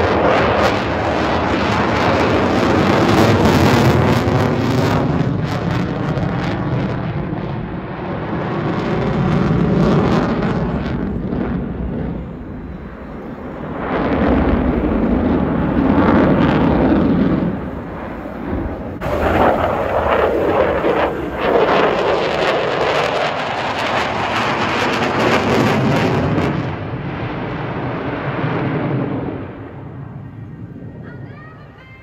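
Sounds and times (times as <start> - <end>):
loud aircraft engine: 0.0 - 32.0.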